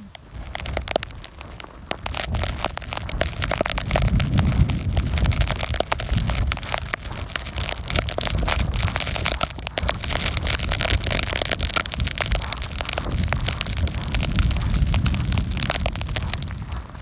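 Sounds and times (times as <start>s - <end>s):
sleet crackling on phone case: 0.0s - 17.0s
wind rumble on microphone: 0.0s - 17.0s.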